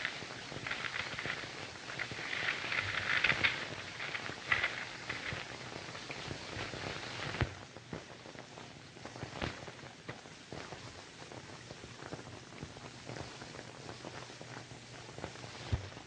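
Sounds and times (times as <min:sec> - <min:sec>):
film soundtrack crackle: 0:00.0 - 0:16.0.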